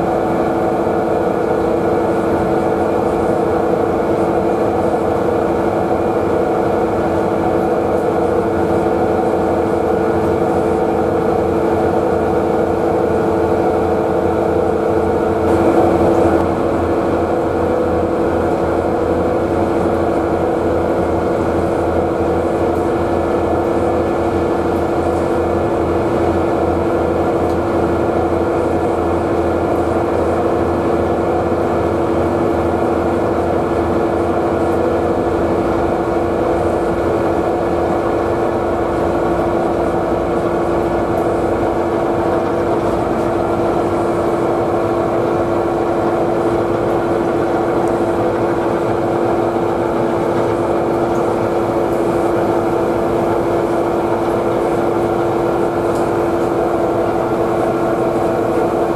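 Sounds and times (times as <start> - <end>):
ship diesel engine drone: 0.0 - 58.9.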